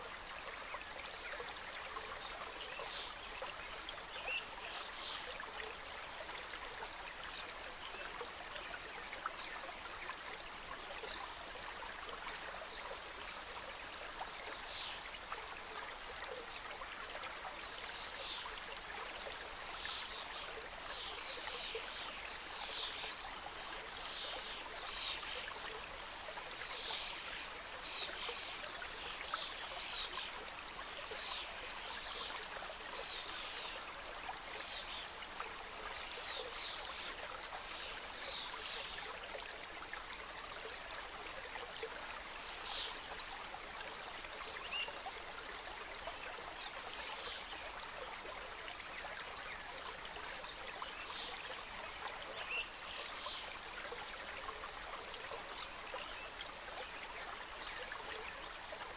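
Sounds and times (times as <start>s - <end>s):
mountain stream cascading over stones: 0.0s - 58.9s.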